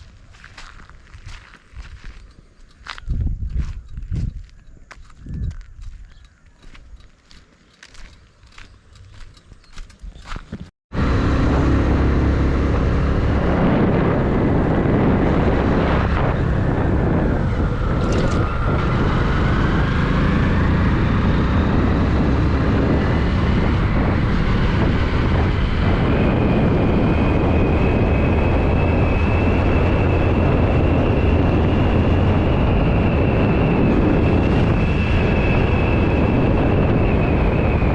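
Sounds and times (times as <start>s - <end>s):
vehicle rumble: 0.0s - 37.9s
wind noise on microphone: 0.0s - 37.9s.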